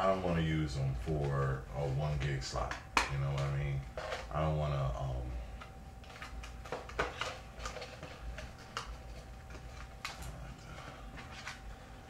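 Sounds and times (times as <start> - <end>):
faint hum with high tone: 0.0 - 12.0.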